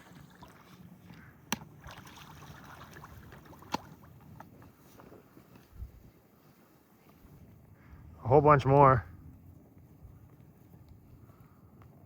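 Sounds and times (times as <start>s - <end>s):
faint outdoor noise: 0.0s - 12.0s.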